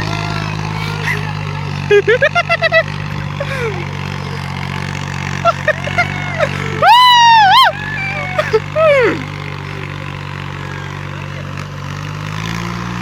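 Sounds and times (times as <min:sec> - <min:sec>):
tractor engine humming: 0:00.0 - 0:13.0.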